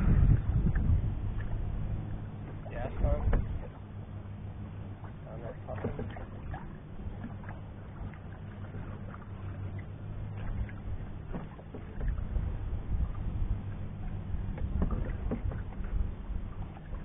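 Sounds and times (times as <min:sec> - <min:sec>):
low rumble: 0:00.0 - 0:17.0
water washing along canoe hull: 0:00.0 - 0:17.0.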